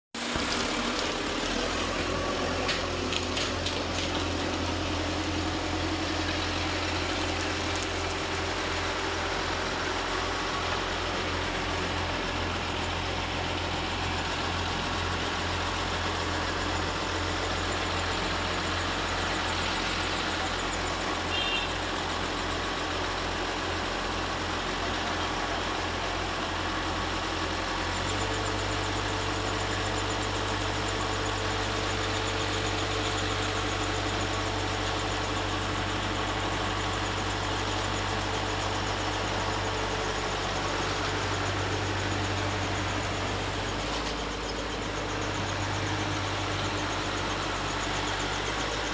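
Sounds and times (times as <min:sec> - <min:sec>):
diesel truck engine running: 0:00.2 - 0:48.9.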